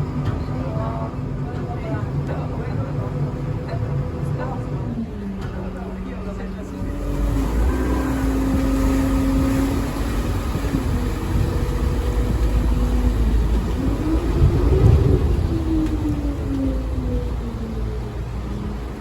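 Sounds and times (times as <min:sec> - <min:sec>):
deep rumble: 0:00.0 - 0:19.0
vehicle engine running: 0:01.8 - 0:19.0.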